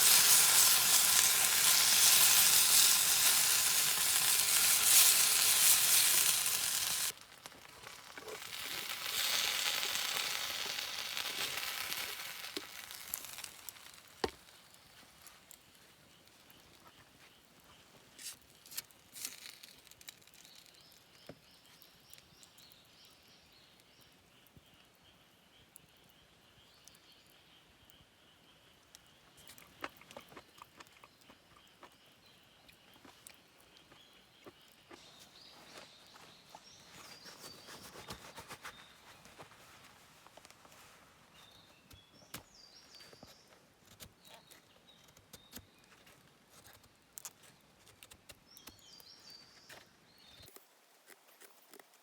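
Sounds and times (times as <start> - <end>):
small birds singing: 0.0 - 40.0, 41.3 - 50.6.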